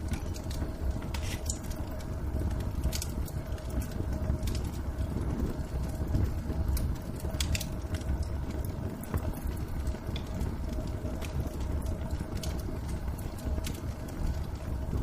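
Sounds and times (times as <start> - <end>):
faint steady hum: 0.0 - 15.0
fire crackling and popping: 0.0 - 15.0
low fire rumble: 0.0 - 15.0.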